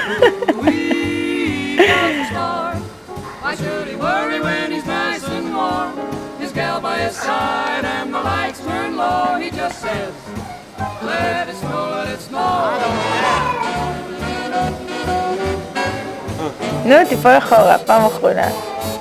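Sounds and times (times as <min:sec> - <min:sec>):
christmas song with singing and band: 0:00.0 - 0:16.6.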